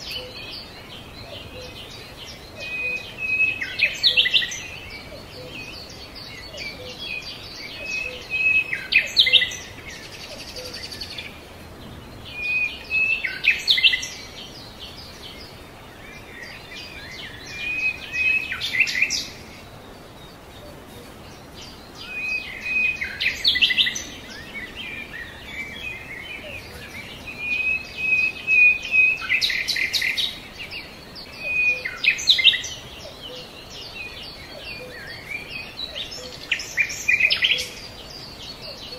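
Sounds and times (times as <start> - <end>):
faint steady hiss: 0.0 - 38.9
songbird chirping: 0.0 - 38.9.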